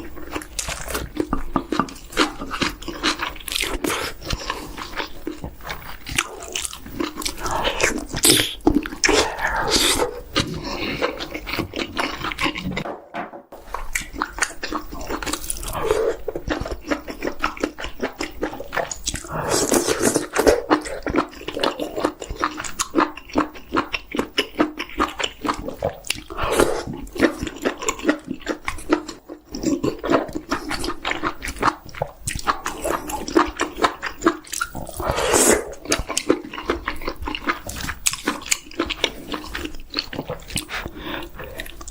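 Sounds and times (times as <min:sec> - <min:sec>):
chewing with mouth smacks: 0:00.0 - 0:12.9, 0:13.6 - 0:41.9.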